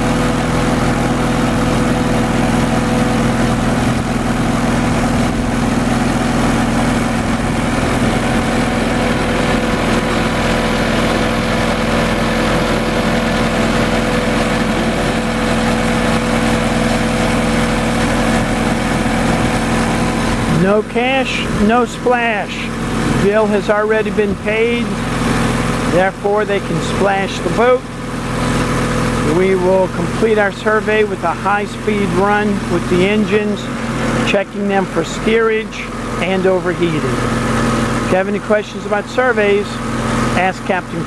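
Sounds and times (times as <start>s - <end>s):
engine humming steadily: 0.0s - 41.0s.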